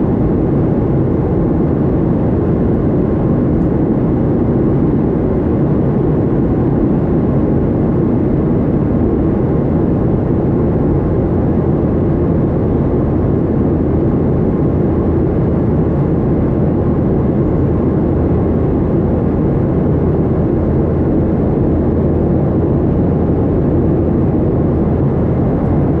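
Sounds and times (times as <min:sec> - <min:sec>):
jet airliner noise: 0:00.0 - 0:26.0.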